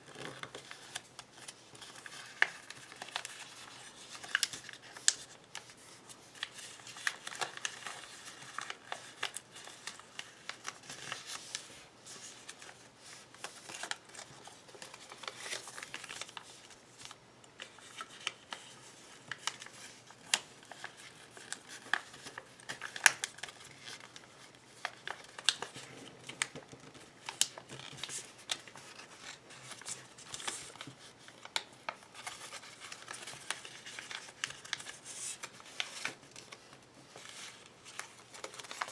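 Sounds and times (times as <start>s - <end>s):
paper being folded and creased: 0.0s - 38.9s.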